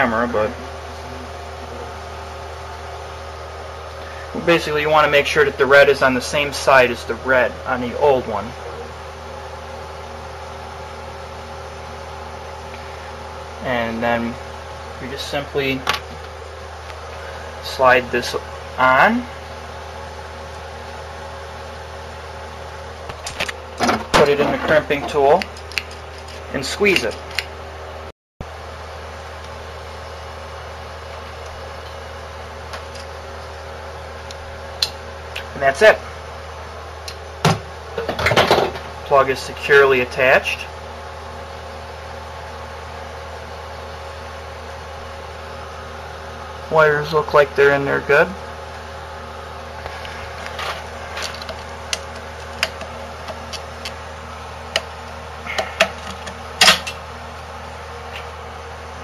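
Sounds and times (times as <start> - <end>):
room noise: 0.0 - 40.8, 43.5 - 59.0
electrical hum: 0.0 - 59.0.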